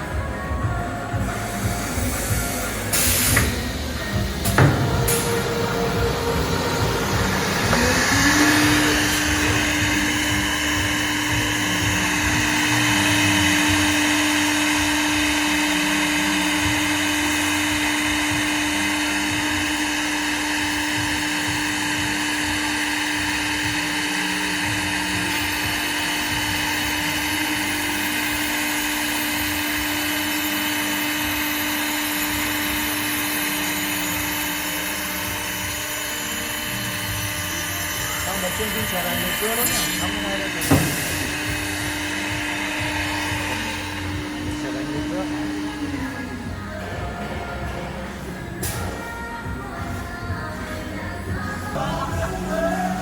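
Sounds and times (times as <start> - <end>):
spindle motor whine: 0.0 - 53.0.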